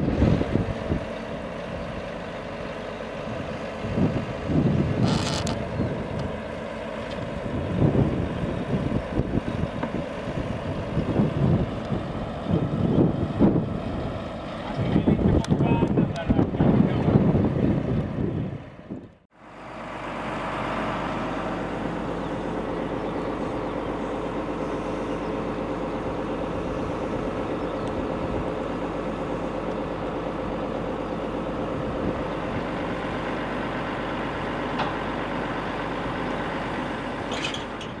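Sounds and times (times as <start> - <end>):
diesel engine idling: 0.0 - 38.0.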